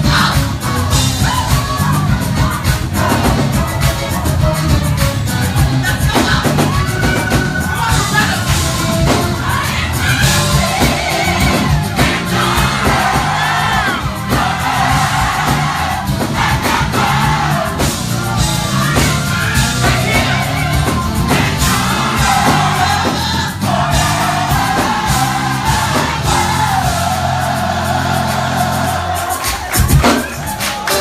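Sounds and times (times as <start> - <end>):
band with bass drums keyboard: 0.0 - 31.0
gospel choir singing: 0.0 - 31.0.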